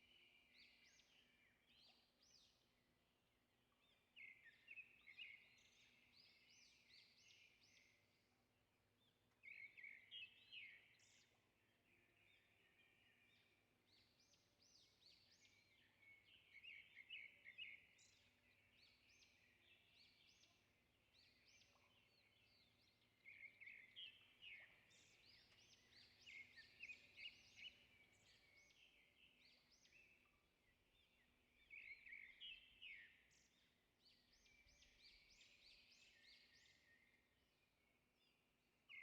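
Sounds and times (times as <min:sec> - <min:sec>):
small birds chirping: 0:00.0 - 0:08.2, 0:08.8 - 0:39.0.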